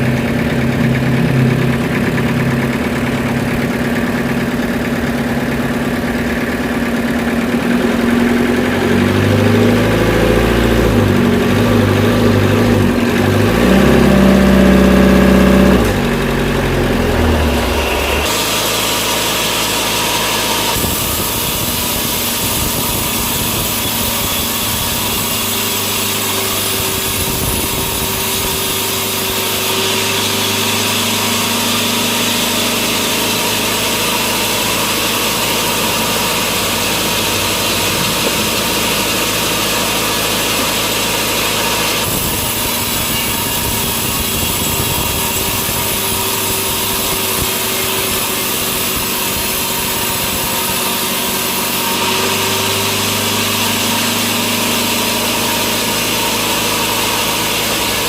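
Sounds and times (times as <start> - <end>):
sawmill machinery hiss: 0.0 - 58.0
sawmill motor hum: 0.0 - 58.0.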